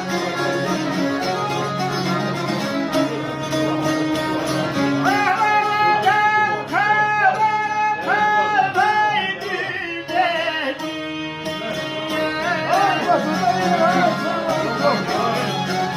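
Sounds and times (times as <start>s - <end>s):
plucked and bowed strings: 0.0s - 15.9s.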